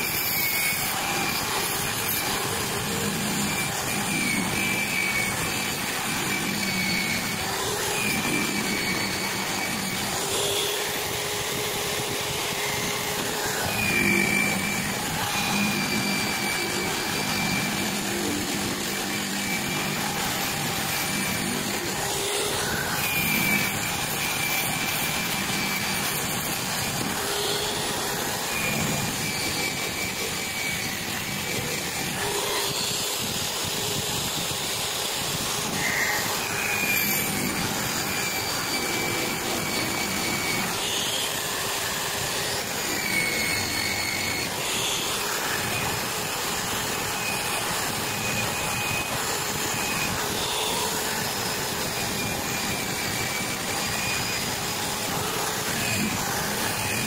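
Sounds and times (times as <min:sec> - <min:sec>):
rotary tool wire brush whirring: 0:00.0 - 0:57.0.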